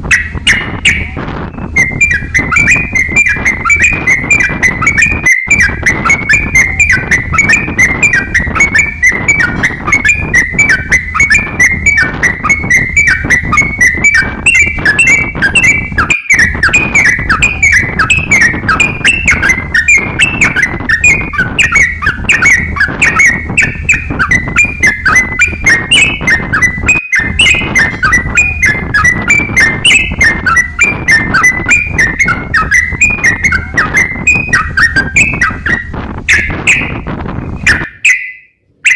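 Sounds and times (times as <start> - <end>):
songbird chattering whistles: 0.0 - 38.9.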